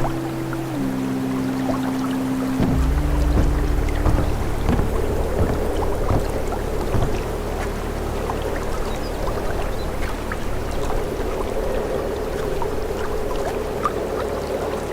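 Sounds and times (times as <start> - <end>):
river water rushing: 0.0 - 14.9.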